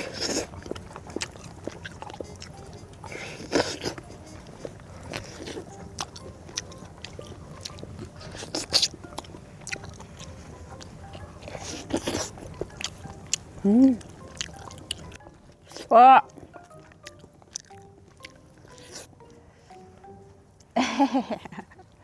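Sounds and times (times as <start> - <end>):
chewing and gnawing meat: 0.0 - 20.8.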